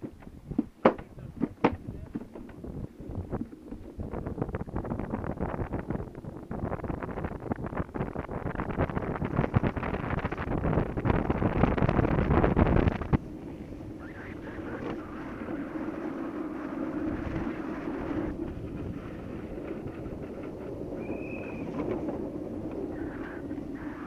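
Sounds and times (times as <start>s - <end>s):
tyres rolling on asphalt: 0.0s - 24.0s
wind buffeting microphone: 0.0s - 24.0s.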